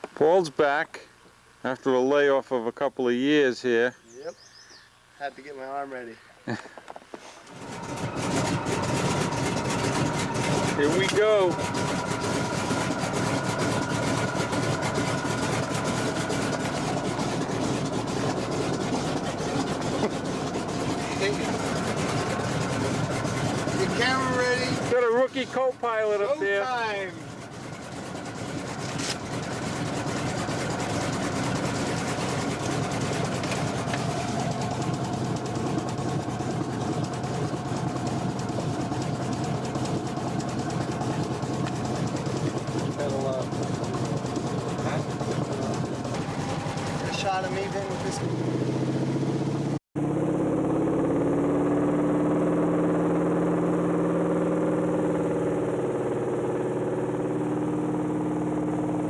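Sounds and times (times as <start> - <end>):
floatplane engine running: 7.4 - 59.0.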